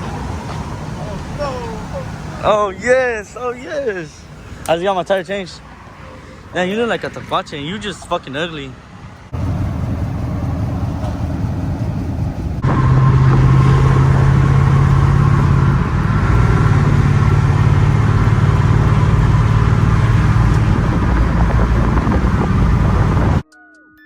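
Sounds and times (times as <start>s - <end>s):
road noise: 0.0s - 23.4s
vehicle engine drone: 0.0s - 23.4s.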